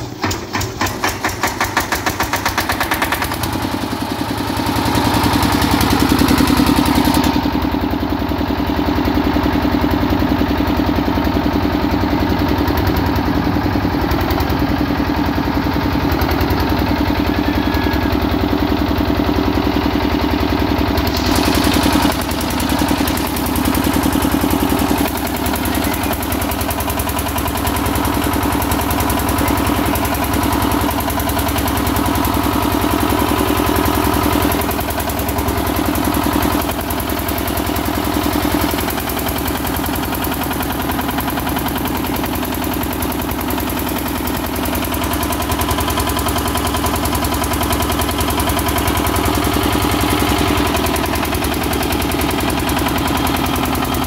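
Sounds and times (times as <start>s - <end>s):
diesel generator engine running: 0.0s - 54.0s.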